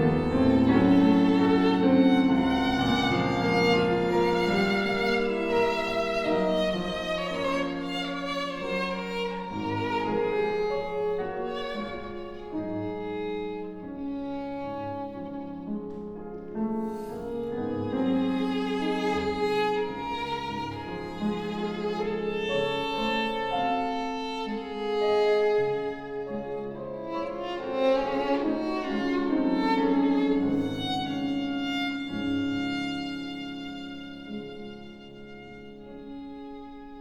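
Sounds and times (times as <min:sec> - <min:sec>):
cello: 0:00.0 - 0:37.0
piano: 0:00.0 - 0:37.0
violin: 0:00.0 - 0:37.0.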